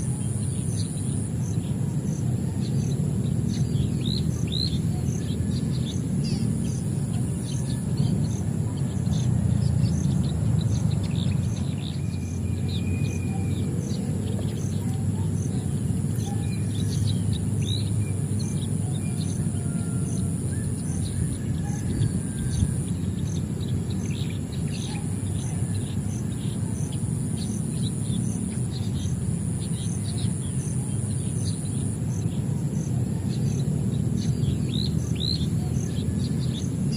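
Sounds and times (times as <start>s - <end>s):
high insect trill: 0.0s - 36.9s
small birds chirping: 0.0s - 36.9s
steady low rumble: 0.0s - 36.9s.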